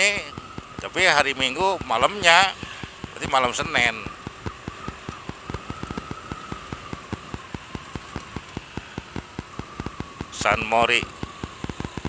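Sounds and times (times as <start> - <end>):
motorcycle riding hiss and whine: 0.0 - 12.0.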